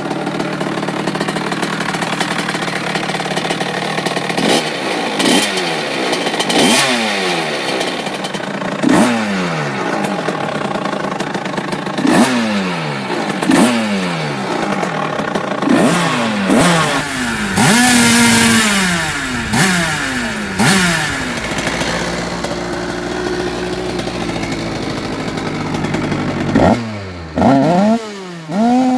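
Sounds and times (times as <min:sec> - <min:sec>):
two-stroke engine revving: 0:00.0 - 0:28.9.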